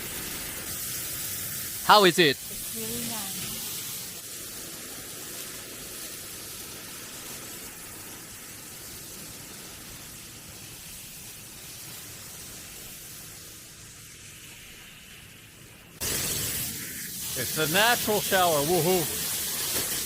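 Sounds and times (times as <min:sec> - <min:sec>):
waterfall splashing: 0:00.0 - 0:13.8, 0:16.0 - 0:20.0.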